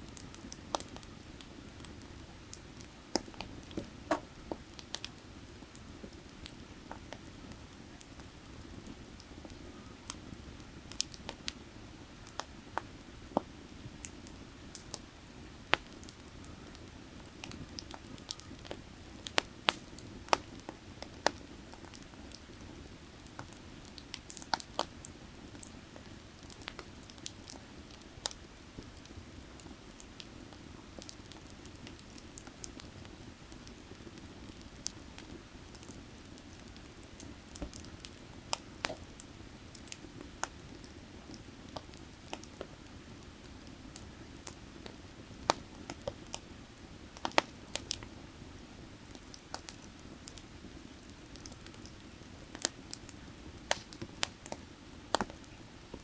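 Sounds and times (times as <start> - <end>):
firewood crackling and popping: 0.1 - 56.0.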